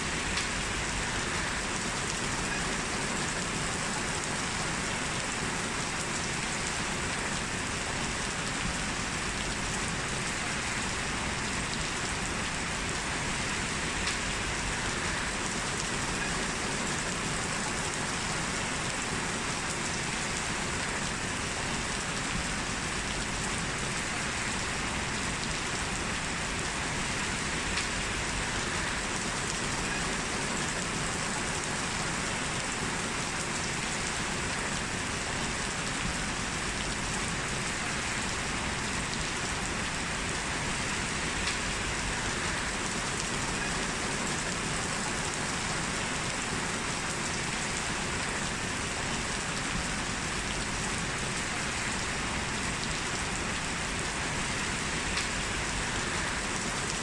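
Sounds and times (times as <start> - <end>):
heavy rain on hard surfaces: 0.0 - 57.0.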